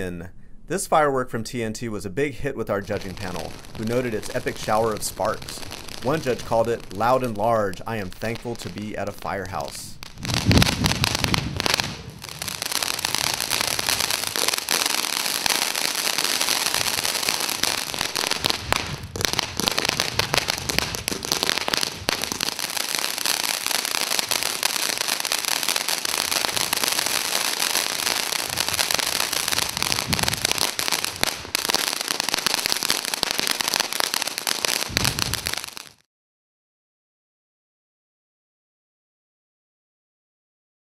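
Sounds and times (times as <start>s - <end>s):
firework bangs: 2.8s - 36.0s
firework fountain hissing and crackling: 2.8s - 36.0s.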